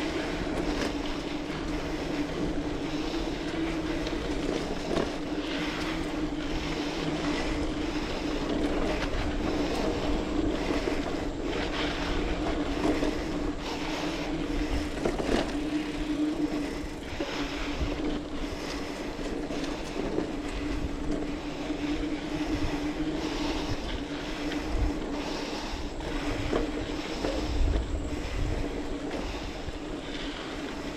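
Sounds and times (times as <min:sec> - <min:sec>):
bike tyres and drivetrain on dirt: 0:00.0 - 0:30.9
wind rumbling on microphone: 0:00.0 - 0:30.9.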